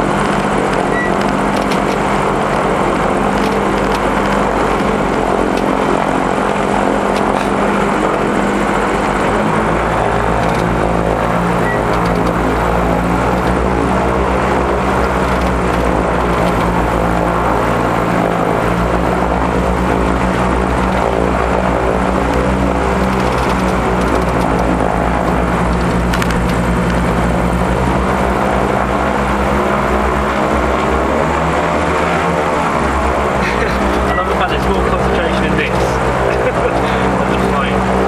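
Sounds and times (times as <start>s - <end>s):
propeller engines running: 0.0s - 38.0s.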